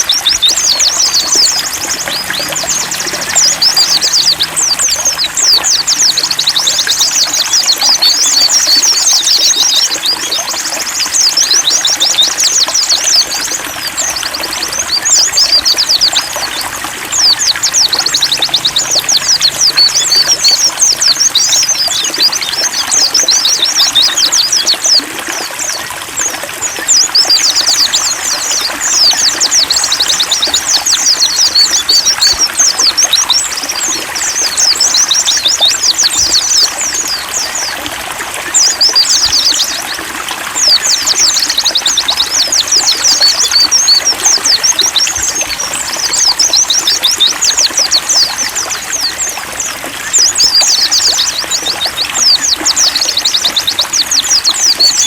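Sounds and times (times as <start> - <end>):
birds twittering: 0.0 - 55.0
running water trickle: 0.0 - 55.0.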